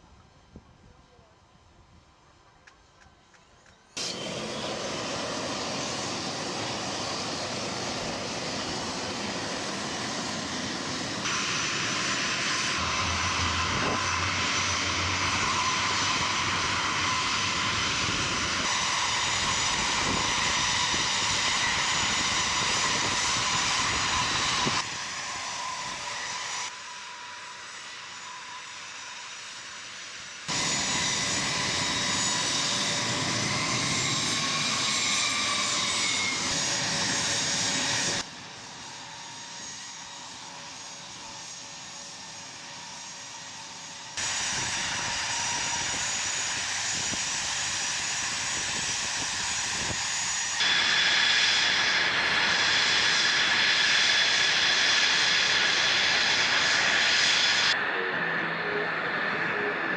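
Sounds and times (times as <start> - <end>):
jet engines whining: 4.0 - 59.9.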